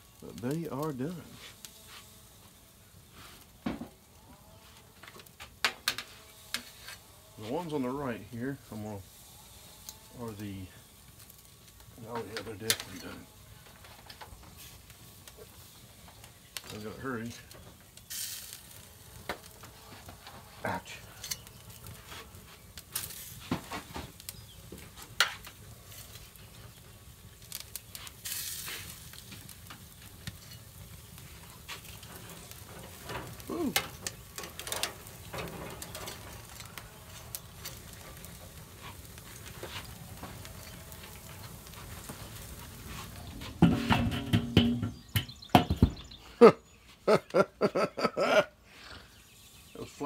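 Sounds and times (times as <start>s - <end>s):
charcoal sizzling and crackling: 0.0s - 50.0s.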